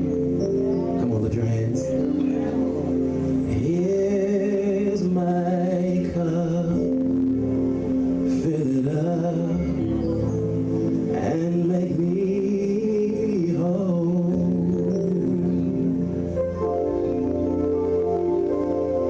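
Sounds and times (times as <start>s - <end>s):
keyboard chords: 0.0s - 19.0s
person singing: 0.0s - 19.0s.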